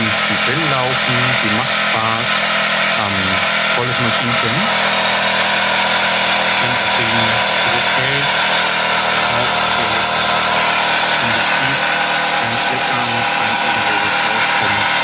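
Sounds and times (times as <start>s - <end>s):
toy steam engine hissing: 0.0s - 15.0s.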